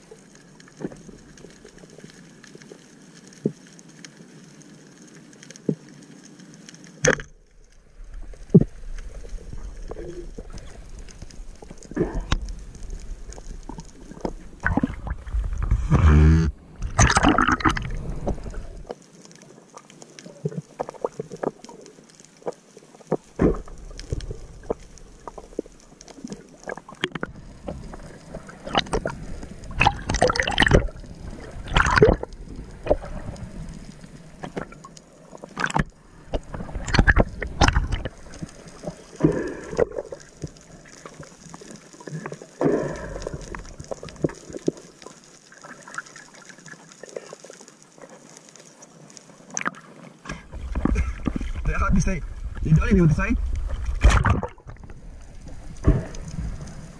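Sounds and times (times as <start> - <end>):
water splashing and sloshing: 0.0 - 56.9.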